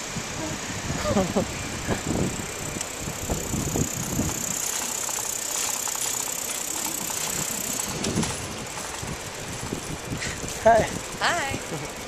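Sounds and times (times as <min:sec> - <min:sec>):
wind on microphone: 0:00.0 - 0:05.2, 0:06.8 - 0:11.8
bicycle tyre and road noise: 0:00.0 - 0:12.0.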